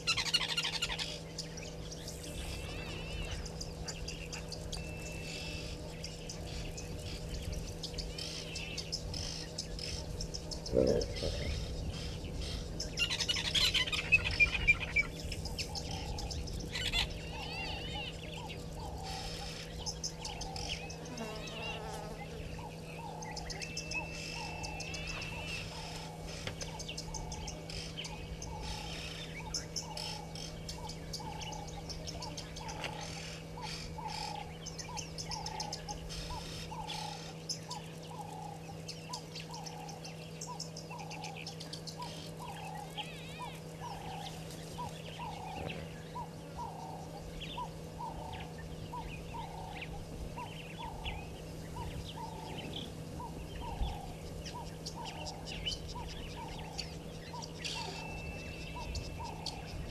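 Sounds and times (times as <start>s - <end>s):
high bird chirping: 0.0s - 59.9s
steady low hum: 0.0s - 59.9s.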